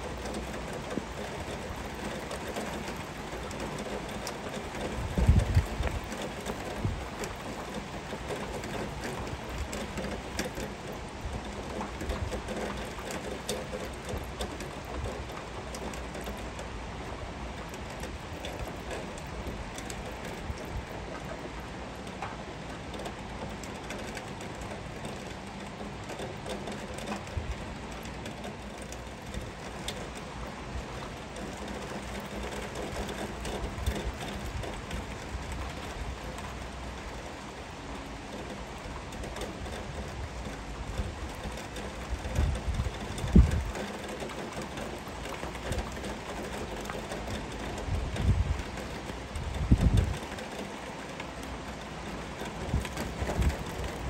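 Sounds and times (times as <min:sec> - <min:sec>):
heavy rain falling: 0:00.0 - 0:54.0
raindrops ticking on surfaces: 0:00.0 - 0:54.0.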